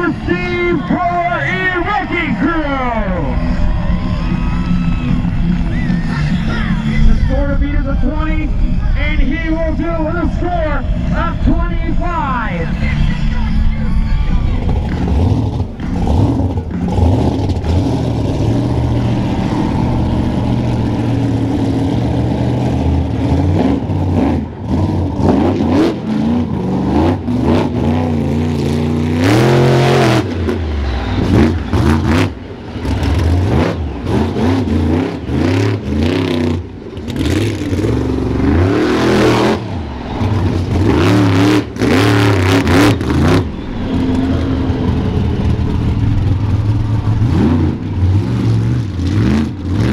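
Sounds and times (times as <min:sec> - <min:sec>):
monster truck engine revving: 0:00.0 - 0:49.9.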